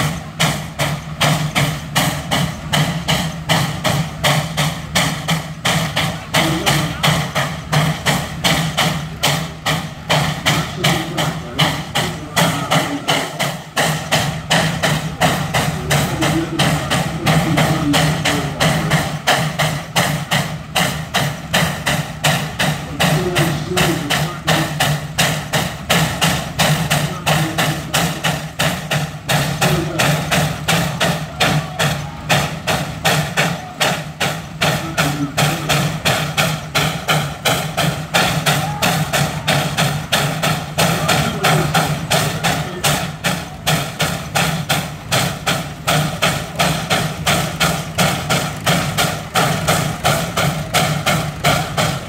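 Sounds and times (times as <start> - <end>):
low engine hum: 0.0 - 52.0
steam exhaust chuffing: 0.0 - 52.0.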